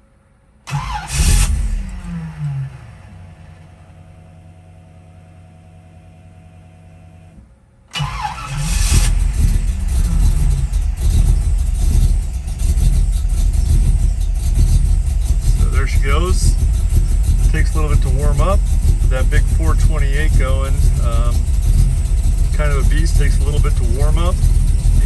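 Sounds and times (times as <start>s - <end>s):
engine revving and running loudly: 0.7s - 4.4s, 8.0s - 25.0s
car engine cold start: 0.7s - 25.0s
low steady hum: 1.4s - 25.0s.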